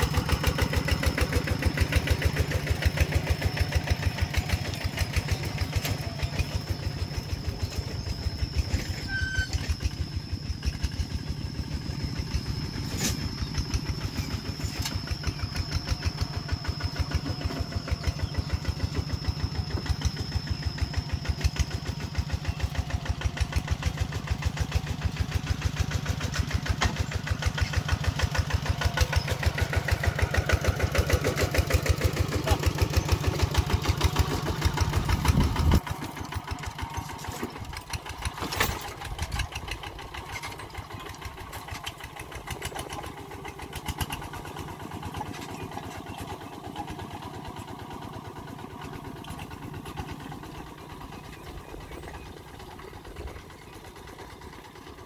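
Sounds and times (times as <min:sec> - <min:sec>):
diesel tractor engine chugging: 0:00.0 - 0:55.0.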